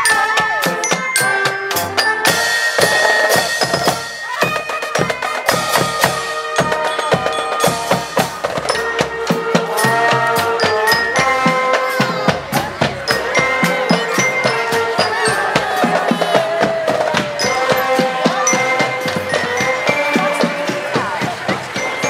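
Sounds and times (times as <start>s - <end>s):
bass and snare drums: 0.0s - 22.0s
marching band brass horns: 0.0s - 22.0s.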